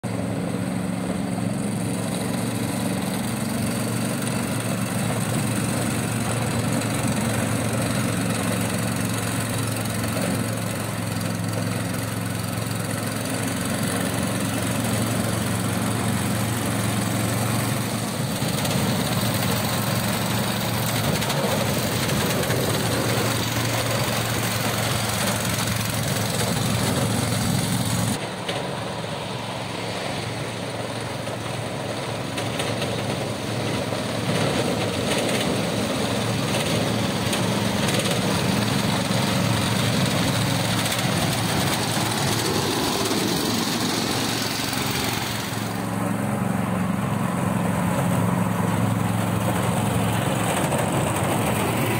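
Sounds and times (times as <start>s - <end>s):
sprayer engine running: 0.0s - 51.9s.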